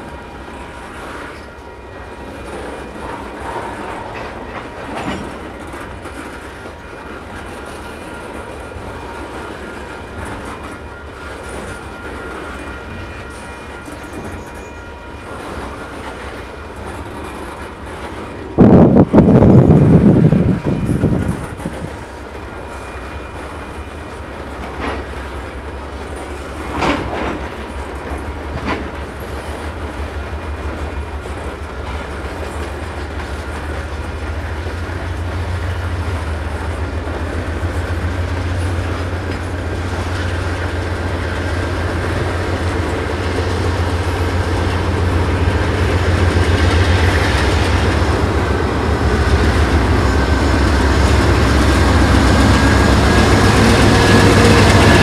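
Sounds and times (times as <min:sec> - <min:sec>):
diesel locomotive engine rumble: 0:00.0 - 0:55.0
freight train rolling: 0:00.0 - 0:55.0
wheels clacking over rail joints: 0:00.7 - 0:55.0.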